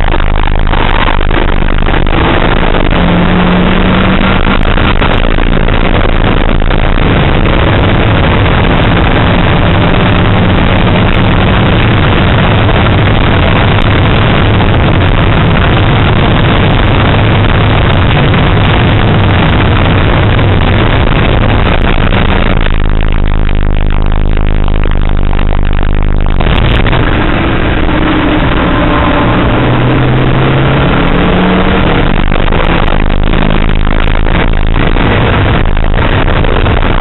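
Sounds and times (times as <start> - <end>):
car engine drone: 0.0 - 37.0
road and wind noise: 0.0 - 37.0.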